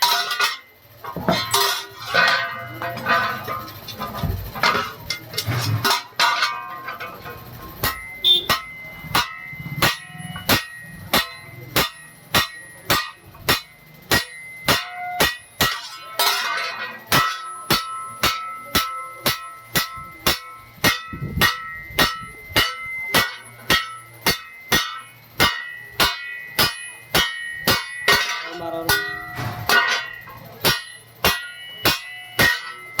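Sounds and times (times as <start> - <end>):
hammer striking metal: 0.0 - 33.0.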